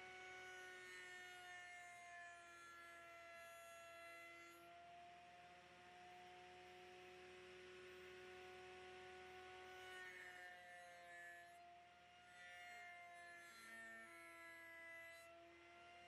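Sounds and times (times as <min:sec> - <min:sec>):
wood router whining: 0:00.0 - 0:16.0.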